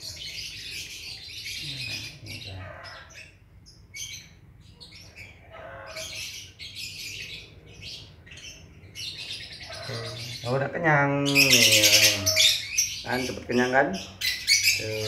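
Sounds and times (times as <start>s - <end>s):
chicks begging chirps: 0.0s - 15.0s.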